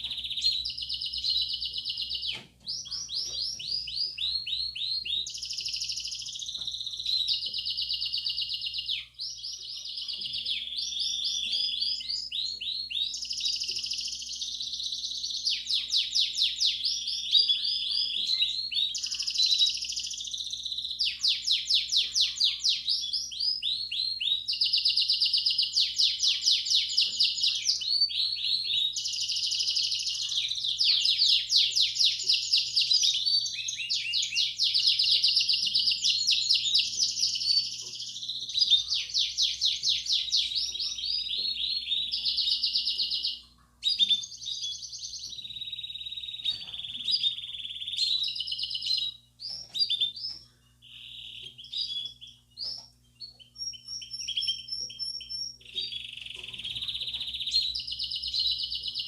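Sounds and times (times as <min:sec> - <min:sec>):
canary trilling song: 0:00.0 - 0:59.0.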